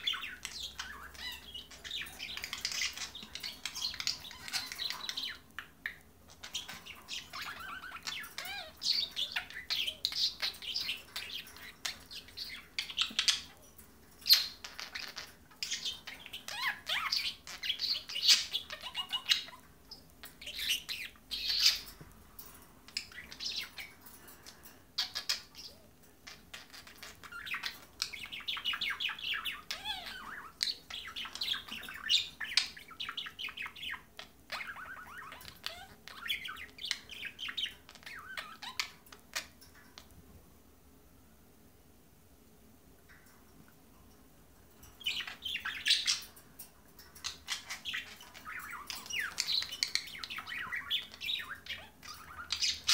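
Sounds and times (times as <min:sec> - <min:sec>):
budgerigars warbling and chattering: 0:00.0 - 0:22.1, 0:22.9 - 0:40.1, 0:44.8 - 0:46.4, 0:47.0 - 0:52.9.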